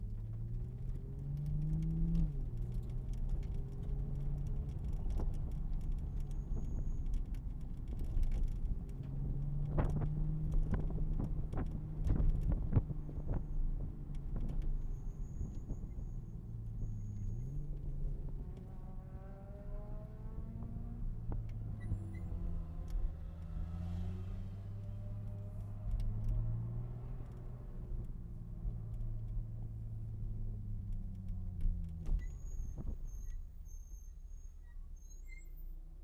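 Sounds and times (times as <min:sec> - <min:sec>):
car engine running at low revs: 0:00.0 - 0:33.7.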